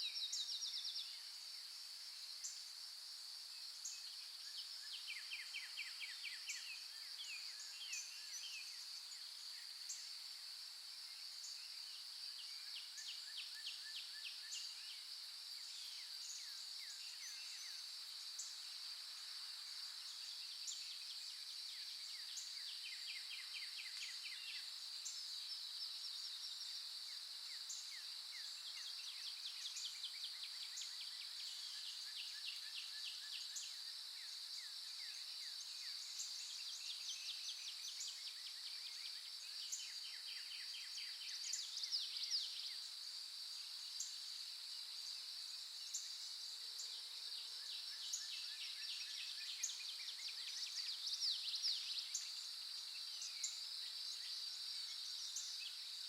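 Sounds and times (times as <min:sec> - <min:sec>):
high insect drone: 0:00.1 - 0:56.0.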